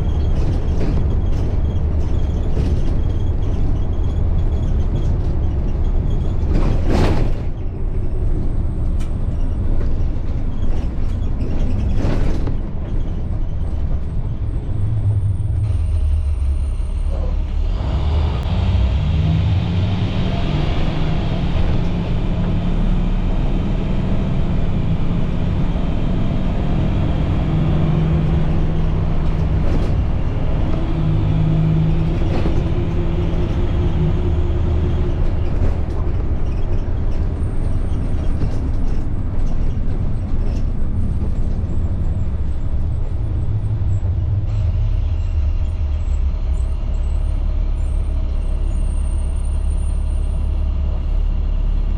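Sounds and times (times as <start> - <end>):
diesel engine drone: 0.0 - 51.9
road rumble: 0.0 - 51.9.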